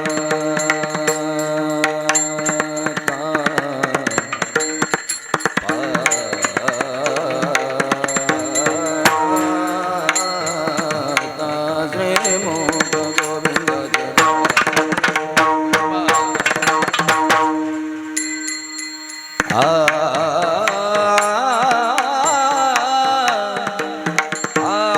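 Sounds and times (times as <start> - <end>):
mridang drum strokes: 0.0 - 24.9
wavering sung melody: 0.0 - 24.9.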